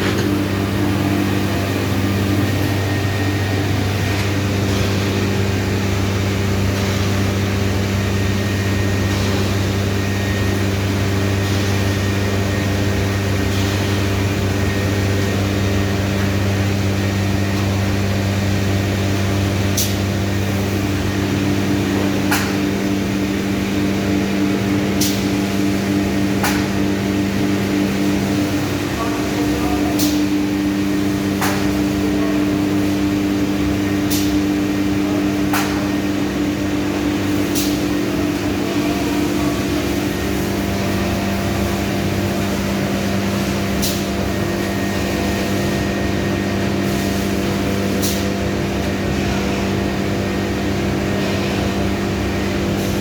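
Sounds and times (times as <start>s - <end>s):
woodworking machine hum: 0.0s - 53.0s.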